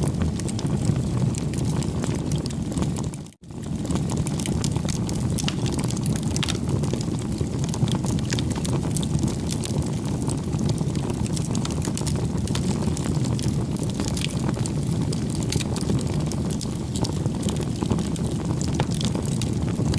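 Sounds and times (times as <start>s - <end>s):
fire crackling and popping: 0.0s - 19.9s
fire rumbling: 0.0s - 19.9s.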